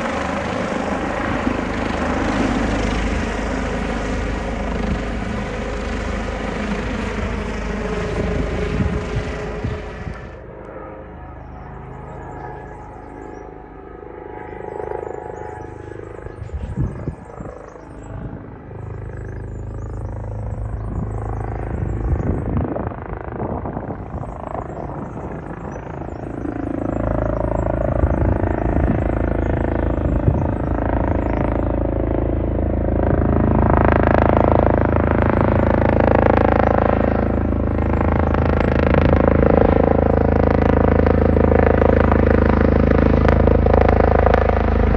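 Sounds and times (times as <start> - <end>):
helicopter turbine and rotor: 0.0 - 44.9.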